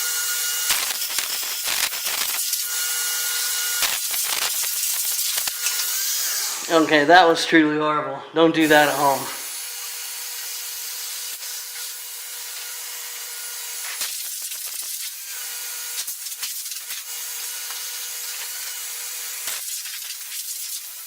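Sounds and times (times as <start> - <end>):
shop vacuum running: 0.0 - 7.4, 8.4 - 21.0.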